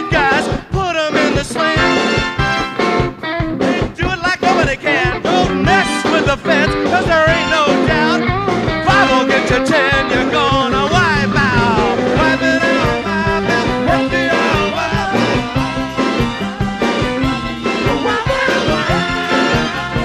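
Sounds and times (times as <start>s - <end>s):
lead vocal singing: 0.0s - 2.3s, 3.6s - 20.0s
rock band playing surf rock: 0.0s - 20.0s.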